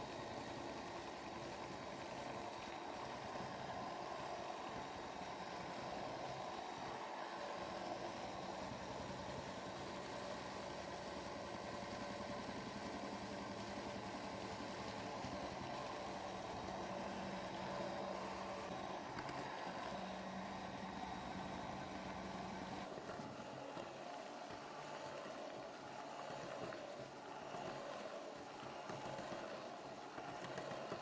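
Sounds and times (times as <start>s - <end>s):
electric hand mixer running: 0.0s - 31.0s.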